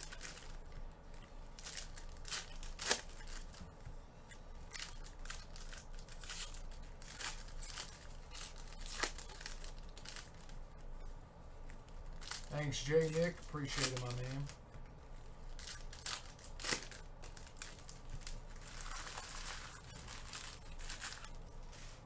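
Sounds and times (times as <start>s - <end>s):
foil wrappers ripping and crinkling: 0.0s - 3.6s, 4.6s - 10.7s, 11.7s - 14.6s, 15.4s - 22.0s.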